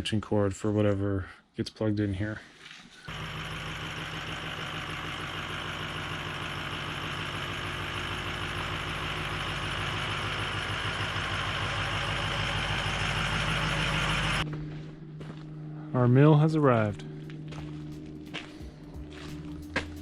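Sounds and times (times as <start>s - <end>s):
vehicle engine running: 3.1s - 15.9s, 16.8s - 20.0s.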